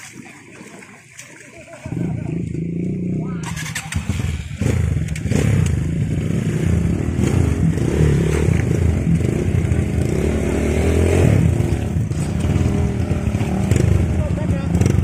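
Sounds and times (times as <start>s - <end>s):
dirt bike engines revving: 1.6s - 15.0s.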